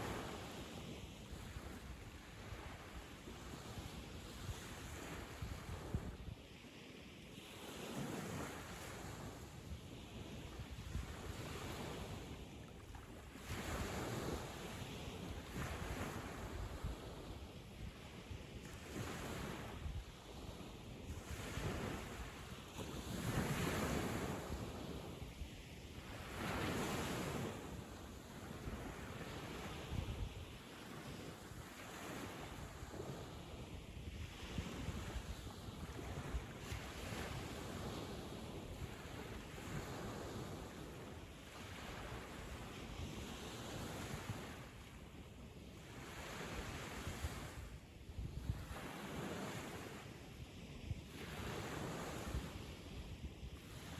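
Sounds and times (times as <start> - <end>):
waves breaking on sand: 0.0 - 53.9
wind noise on microphone: 0.0 - 53.9.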